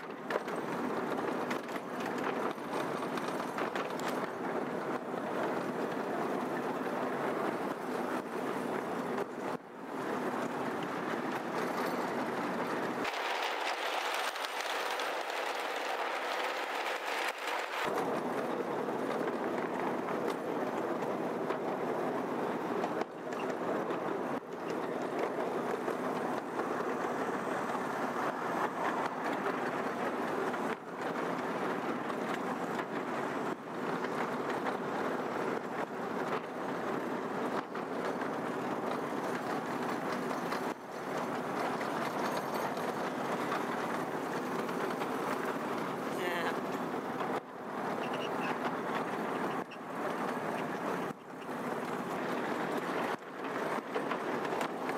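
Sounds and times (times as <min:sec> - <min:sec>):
miniature train running on track: 0:00.0 - 0:54.9
wheels knocking: 0:00.0 - 0:54.9.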